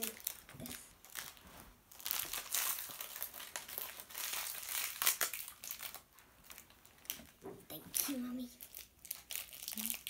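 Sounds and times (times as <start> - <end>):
crinkly wrapper tearing: 0.0 - 10.0.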